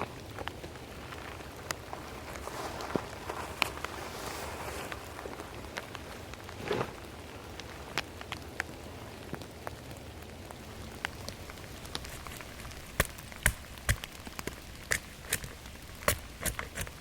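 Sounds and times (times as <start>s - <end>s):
heavy raindrops ticking: 0.0s - 4.0s, 4.9s - 17.0s
steady rain in forest: 0.0s - 17.0s.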